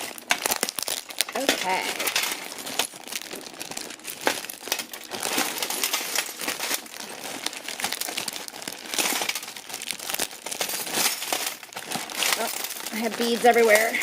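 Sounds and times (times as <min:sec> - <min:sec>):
bag crinkling: 0:00.0 - 0:14.0
jewelry rummaging: 0:00.0 - 0:14.0.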